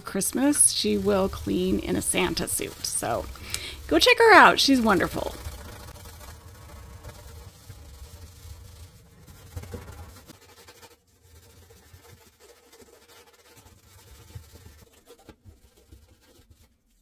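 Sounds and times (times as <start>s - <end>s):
scrubbing oven walls: 0.0s - 16.9s.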